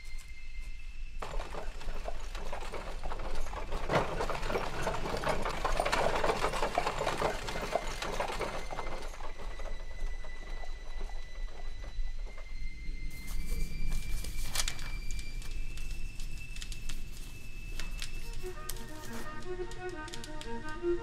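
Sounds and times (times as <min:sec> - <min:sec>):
hooves and wheels on gravel: 0:01.2 - 0:21.0.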